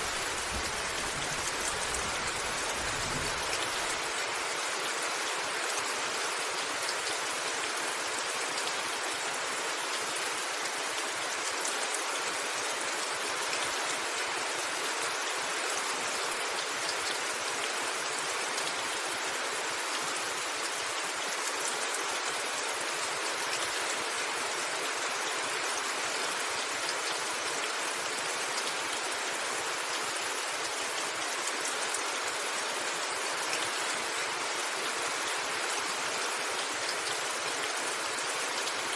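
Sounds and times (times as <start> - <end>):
rain on a rooftop: 0.0 - 38.9.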